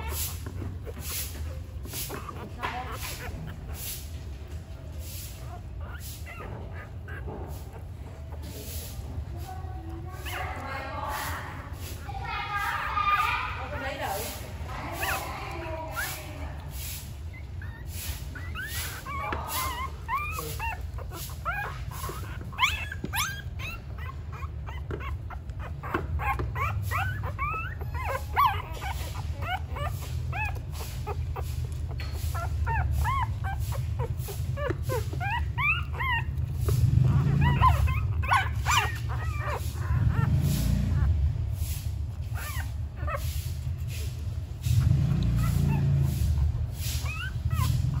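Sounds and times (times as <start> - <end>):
puppies squeaking and whimpering: 0.0 - 48.0.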